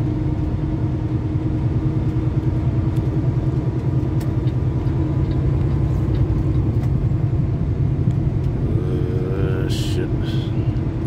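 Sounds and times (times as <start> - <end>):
road noise: 0.0 - 11.0
truck diesel engine drone: 0.0 - 11.0.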